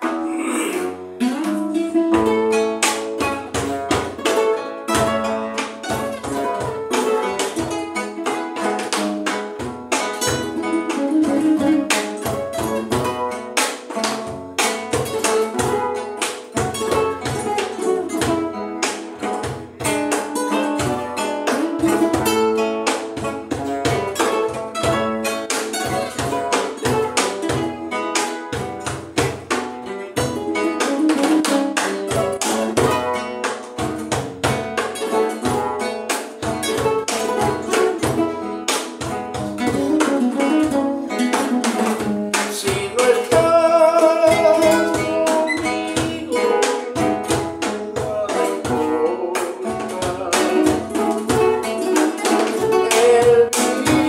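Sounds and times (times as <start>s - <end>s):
cajon tapping rhythm: 0.0s - 54.0s
classical guitars plucked and strummed: 0.0s - 54.0s.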